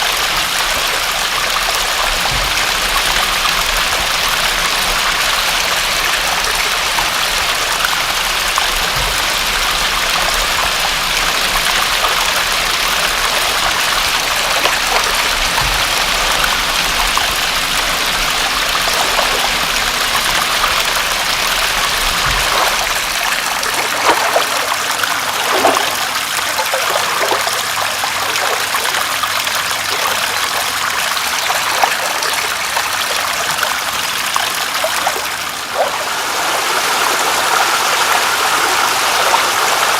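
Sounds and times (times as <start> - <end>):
water plops: 0.0 - 33.8
water rushing: 0.0 - 39.9.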